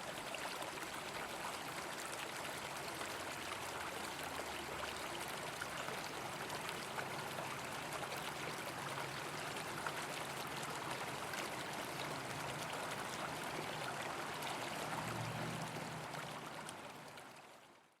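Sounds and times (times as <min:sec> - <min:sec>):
stream water trickling: 0:00.0 - 0:18.0.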